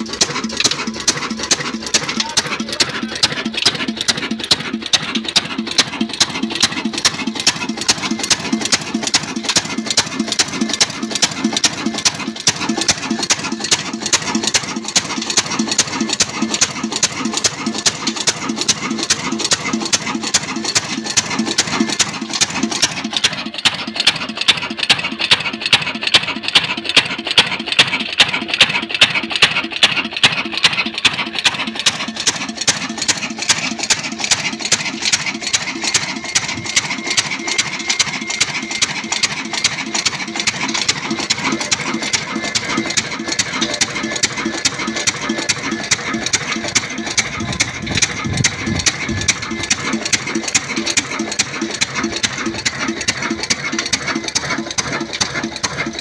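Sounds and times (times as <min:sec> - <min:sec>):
stationary diesel engine running: 0:00.0 - 0:56.0
valve gear knocking and clattering: 0:00.0 - 0:56.0.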